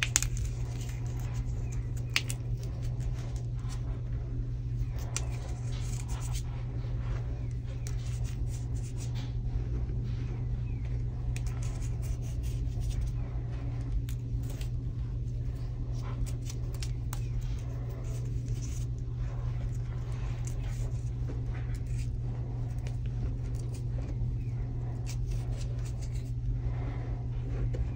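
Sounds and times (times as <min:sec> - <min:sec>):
fingers crunching chalk: 0:00.0 - 0:04.0, 0:04.7 - 0:06.5, 0:07.1 - 0:09.3, 0:11.2 - 0:26.4
steady low hum: 0:00.0 - 0:27.9.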